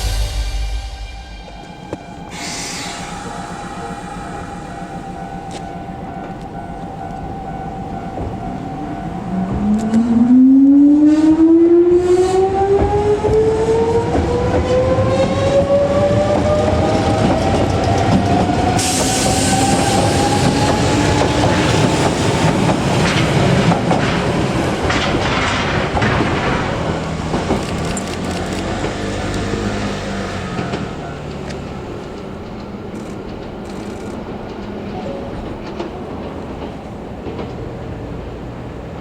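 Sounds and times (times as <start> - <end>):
hissing rail noise: 0.0 - 10.0, 13.2 - 37.9
wheels rumbling on rails: 1.5 - 39.0.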